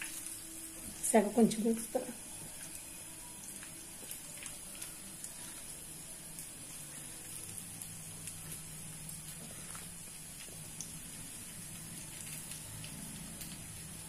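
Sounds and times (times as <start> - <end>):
batter sizzling in oil: 0.0 - 14.0.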